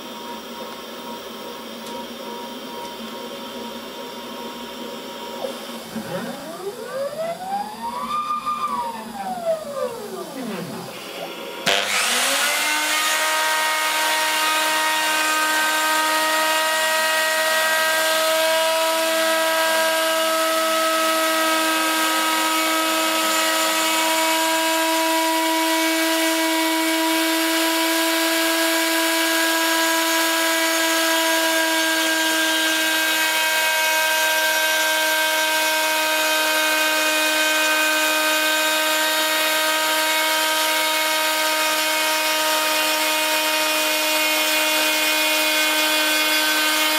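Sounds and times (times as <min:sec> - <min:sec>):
router motor high-pitched whine: 0:00.0 - 0:46.9
router bit milling wood: 0:03.7 - 0:46.9.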